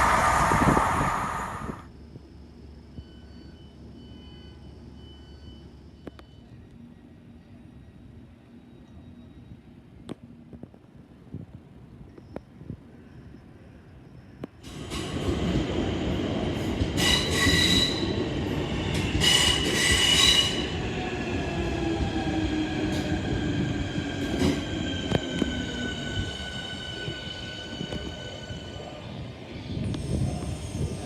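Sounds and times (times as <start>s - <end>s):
train wheels rumbling and squealing: 0.0s - 10.0s, 12.0s - 31.0s.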